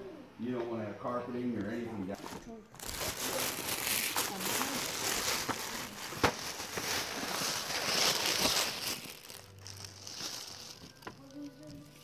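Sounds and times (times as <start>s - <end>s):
tissue paper crinkling: 2.1s - 12.0s.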